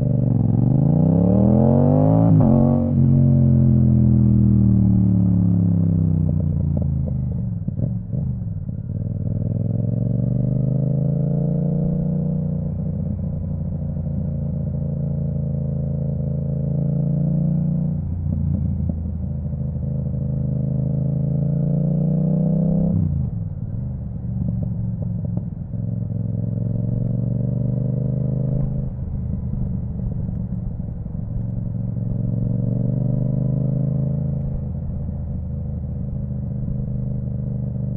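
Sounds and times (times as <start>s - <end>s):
motorcycle engine revving: 0.0s - 8.4s, 9.0s - 23.4s, 24.2s - 37.9s.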